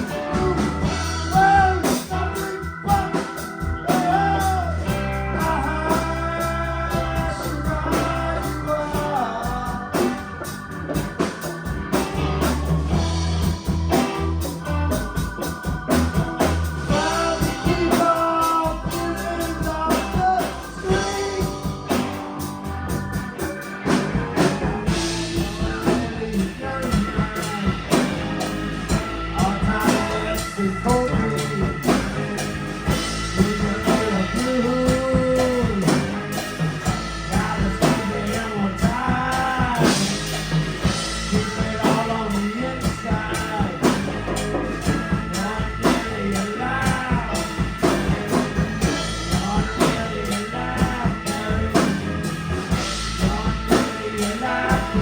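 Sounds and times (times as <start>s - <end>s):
person singing: 0.0s - 10.4s, 16.9s - 23.0s, 23.8s - 55.0s
blues-rock band playing: 0.0s - 55.0s
drum kit beat: 0.0s - 55.0s
guitar: 0.0s - 55.0s.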